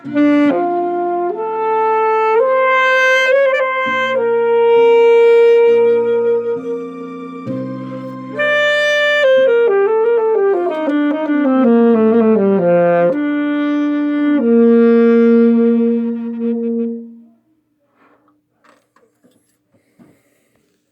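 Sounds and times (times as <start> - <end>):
alto saxophone melody: 0.0 - 17.5.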